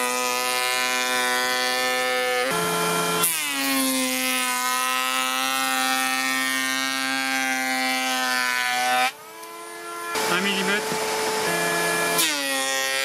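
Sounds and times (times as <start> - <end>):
electric planer cutting: 0.0 - 13.0.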